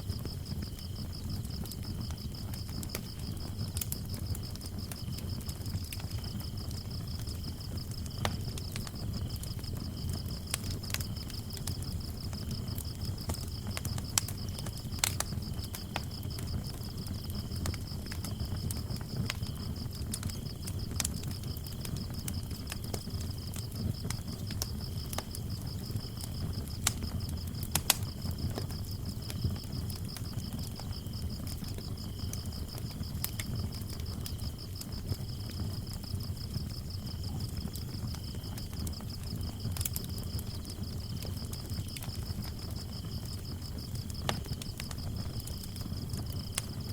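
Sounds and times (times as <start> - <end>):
lower-pitched cricket chirping: 0.0 - 46.9
wood fire crackling and popping: 0.0 - 46.9.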